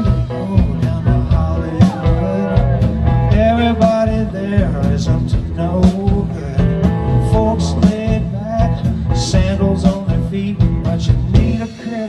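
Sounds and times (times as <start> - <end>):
live country-rock band: 0.0 - 12.0.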